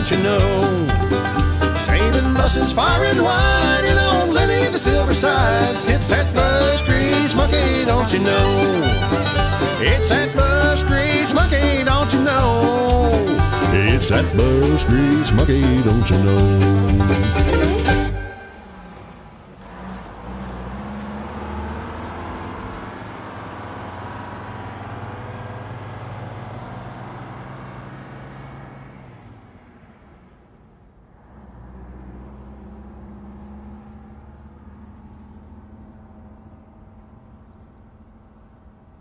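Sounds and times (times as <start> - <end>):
diesel bus engine running: 0.0 - 39.0.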